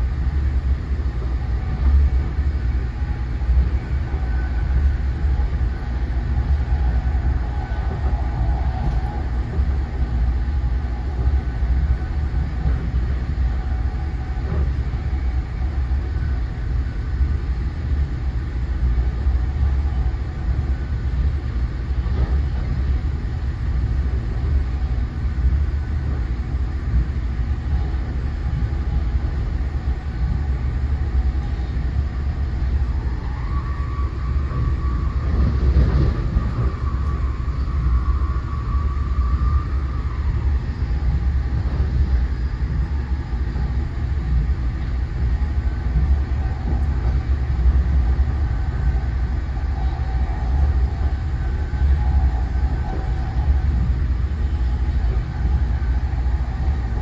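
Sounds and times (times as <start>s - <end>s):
faint whine: 0.0s - 57.0s
train coach rumbling on track: 0.0s - 57.0s.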